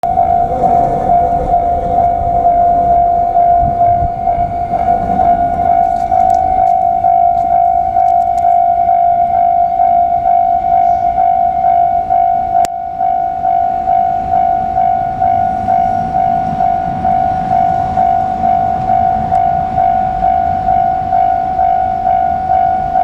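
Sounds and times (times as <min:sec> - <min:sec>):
level-crossing alarm bell: 0:00.0 - 0:23.0
train rumble: 0:00.0 - 0:23.0.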